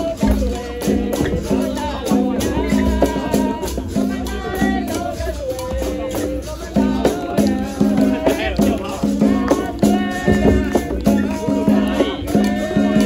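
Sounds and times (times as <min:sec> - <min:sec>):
drum and tambourine beats: 0:00.0 - 0:13.0
shaker rattling: 0:00.0 - 0:13.0
voices singing: 0:00.0 - 0:13.0.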